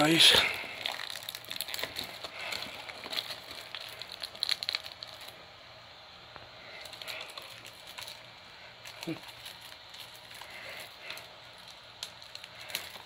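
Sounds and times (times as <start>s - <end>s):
plastic case and wrapping crinkling: 0.0s - 5.5s, 6.4s - 13.0s.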